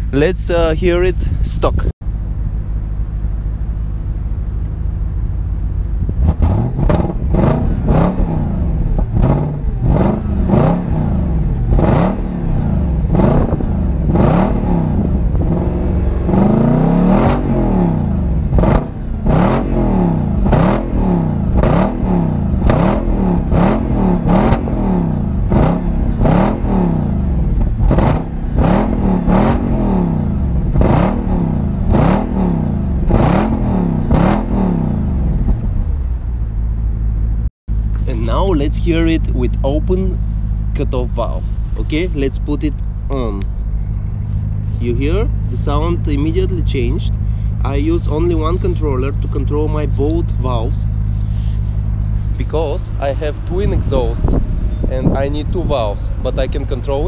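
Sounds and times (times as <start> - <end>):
car engine revving: 2.2 - 57.0.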